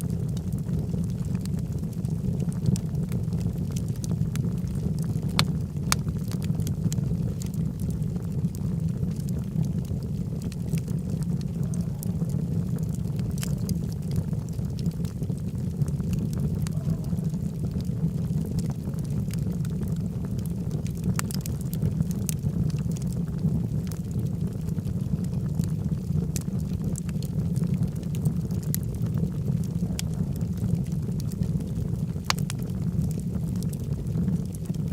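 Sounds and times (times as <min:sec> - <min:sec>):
fire crackles and pops: 0:00.0 - 0:34.9
low rush of flame: 0:00.0 - 0:34.9.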